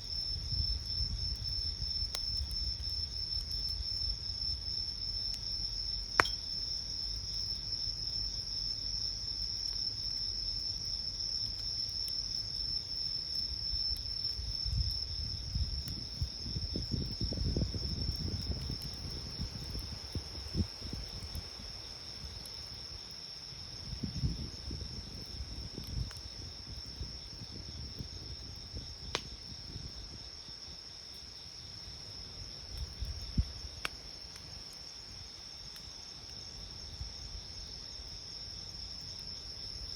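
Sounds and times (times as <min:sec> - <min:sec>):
campfire popping: 0:00.0 - 0:07.5, 0:09.5 - 0:37.0
flames rumbling softly: 0:00.0 - 0:39.9
night insects trilling: 0:00.0 - 0:39.9.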